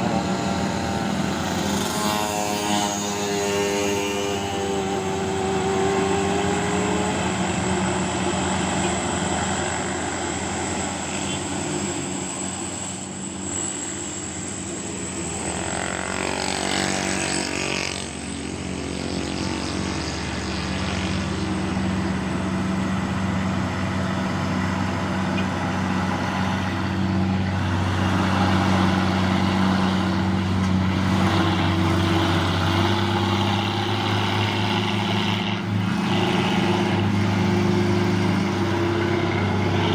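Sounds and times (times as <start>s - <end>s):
vehicle passing by: 0.0s - 13.0s, 15.0s - 39.9s
truck diesel engines labouring: 0.0s - 39.9s.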